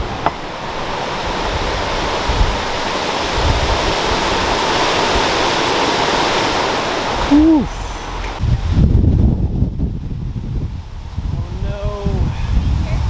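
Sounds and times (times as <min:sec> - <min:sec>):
hurricane wind and rain: 0:00.0 - 0:13.0.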